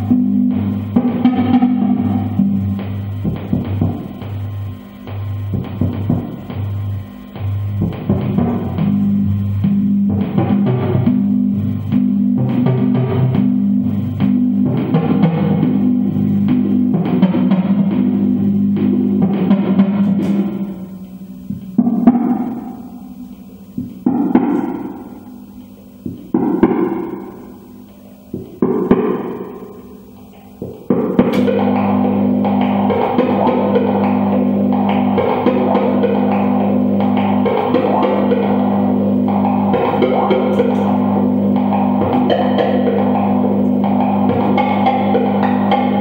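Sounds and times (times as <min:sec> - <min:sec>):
low synthesizer drone: 0:00.0 - 0:46.0
pulsing synth notes: 0:00.0 - 0:46.0
struck synth notes ringing: 0:00.0 - 0:46.0.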